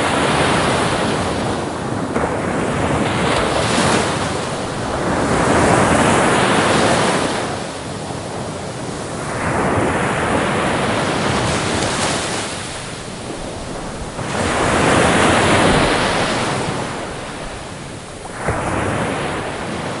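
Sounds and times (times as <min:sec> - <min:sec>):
sea waves breaking on shore: 0:00.0 - 0:20.0.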